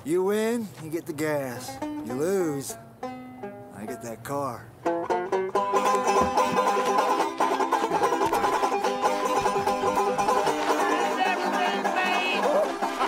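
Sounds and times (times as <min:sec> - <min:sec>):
banjo picked fast: 0:01.5 - 0:04.0, 0:04.8 - 0:13.0.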